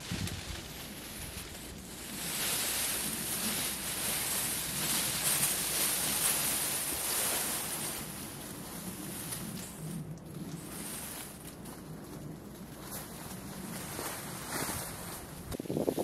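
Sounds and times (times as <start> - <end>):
leafy branches dragged on ground: 0.0 - 16.0.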